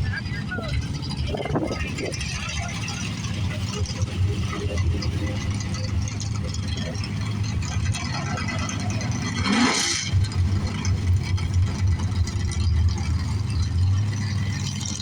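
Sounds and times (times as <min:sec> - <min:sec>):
engine revving: 0:00.0 - 0:15.0
race car engine idling: 0:00.0 - 0:15.0.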